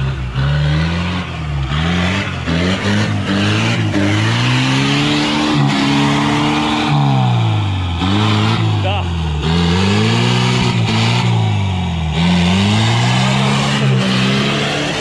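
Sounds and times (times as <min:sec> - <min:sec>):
suv engine revving: 0:00.0 - 0:15.0
tyres churning mud: 0:00.0 - 0:15.0.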